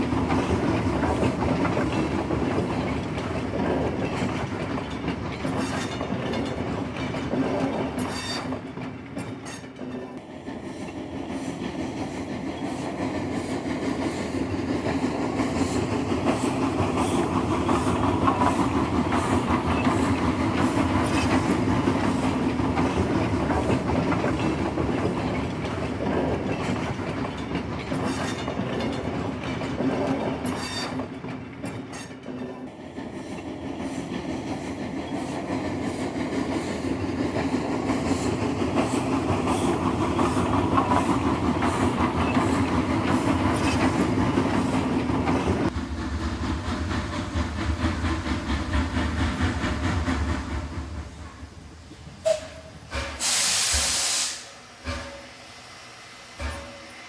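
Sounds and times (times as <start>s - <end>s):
train rumbling on track: 0.0s - 57.0s.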